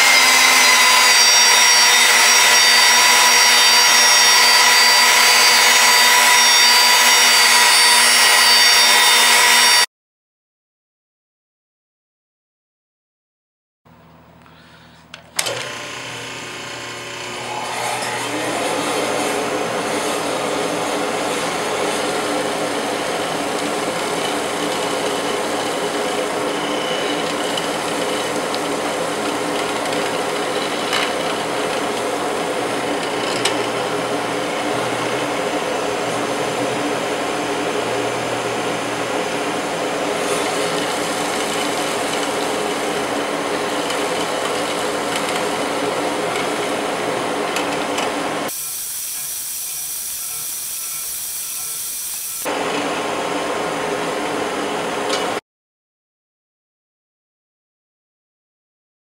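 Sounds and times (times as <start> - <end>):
mortiser machine boring wood: 0.0 - 9.9, 15.4 - 55.4.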